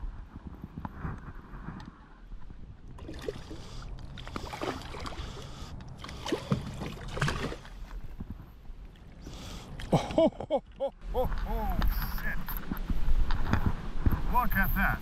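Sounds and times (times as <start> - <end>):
water splashing against kayak: 0.2 - 14.4.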